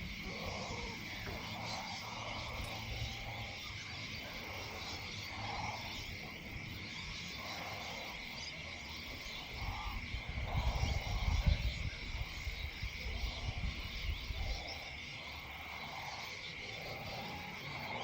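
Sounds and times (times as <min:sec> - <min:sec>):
frogs croaking: 0:00.0 - 0:18.0
high insect trill: 0:00.0 - 0:18.0.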